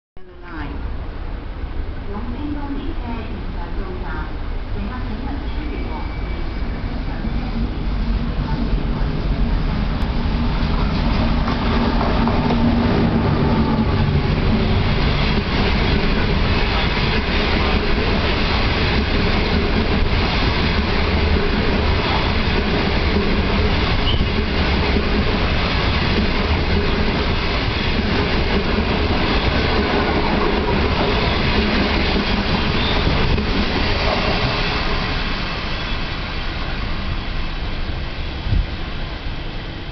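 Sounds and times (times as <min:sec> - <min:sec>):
train wheels on rails: 0:04.9 - 0:39.9.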